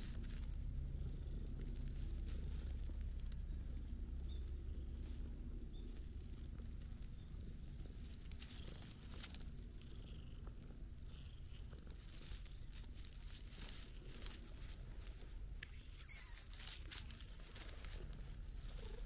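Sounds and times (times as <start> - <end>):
dry pine needles crackling: 0.0 - 19.0.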